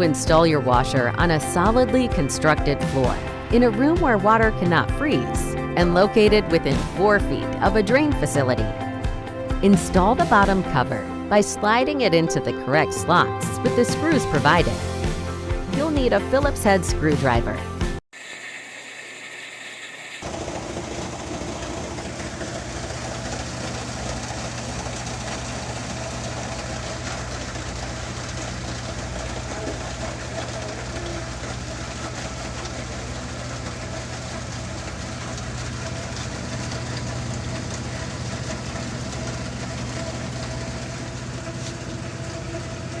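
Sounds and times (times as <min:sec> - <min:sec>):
washing machine motor hum: 0:00.0 - 0:17.4, 0:18.2 - 0:43.0.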